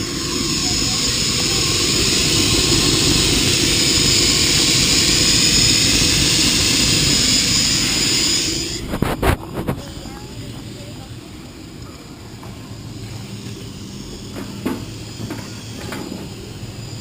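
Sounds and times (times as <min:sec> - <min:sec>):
steam locomotive hissing and rumbling: 0:00.0 - 0:17.0.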